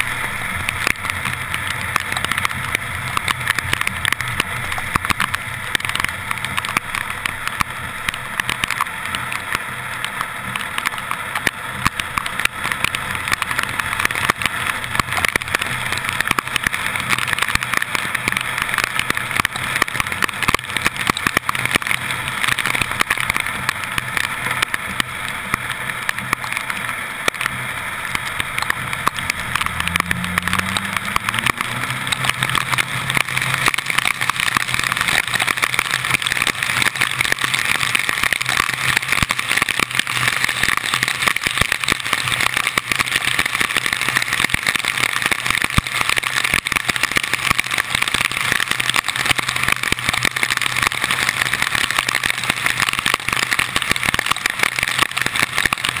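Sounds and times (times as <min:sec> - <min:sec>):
car engine: 0:00.0 - 0:56.0
rain and tyre spray rushing: 0:00.0 - 0:56.0.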